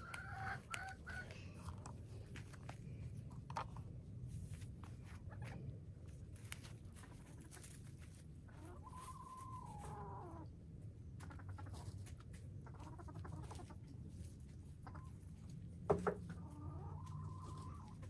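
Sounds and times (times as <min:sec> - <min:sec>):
hens clucking: 0:00.0 - 0:18.0
low steady rumble: 0:00.0 - 0:18.0.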